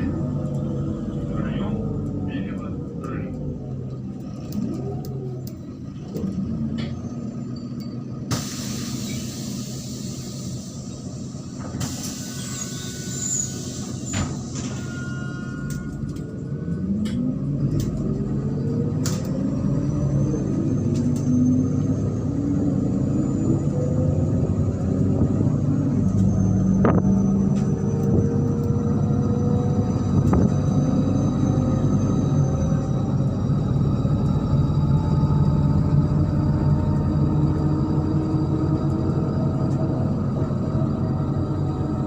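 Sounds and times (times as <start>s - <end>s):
bus diesel engine: 0.0s - 42.0s.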